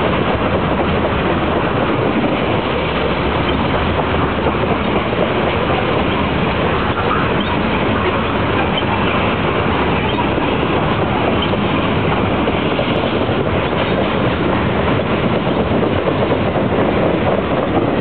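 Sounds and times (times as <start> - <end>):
train cars rolling on rails: 0.0 - 18.0.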